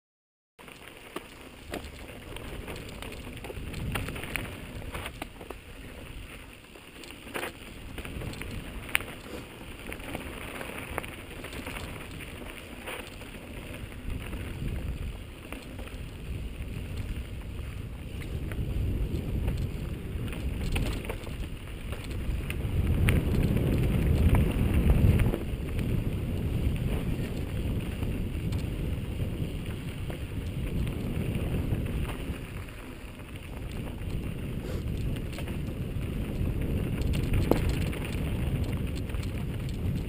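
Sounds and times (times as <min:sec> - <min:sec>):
bike clicks and rattles: 0:00.6 - 0:40.0
wind on microphone: 0:02.2 - 0:06.4, 0:07.3 - 0:12.5, 0:13.3 - 0:40.0.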